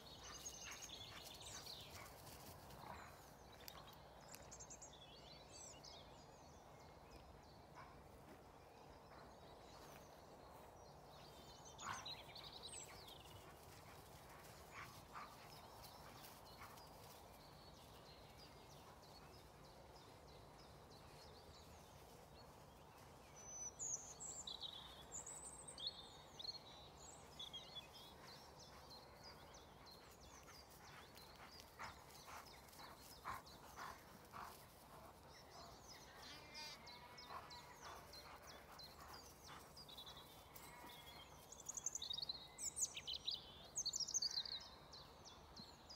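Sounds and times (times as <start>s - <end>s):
small birds chirping: 0.0s - 8.4s, 9.0s - 45.9s.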